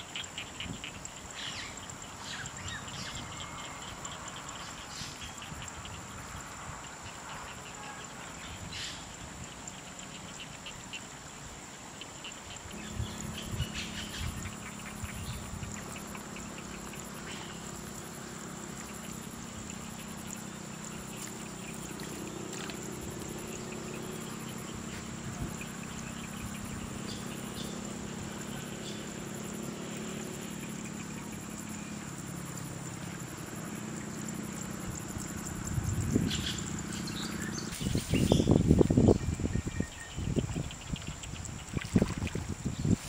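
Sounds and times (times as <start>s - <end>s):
frogs calling: 0.0s - 43.0s
high-pitched insect whine: 0.0s - 43.0s.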